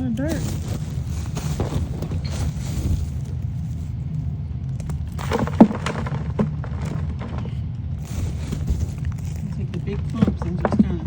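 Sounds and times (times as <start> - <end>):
hands breaking up soil: 0.0 - 11.0
steady low rumble: 0.0 - 11.0.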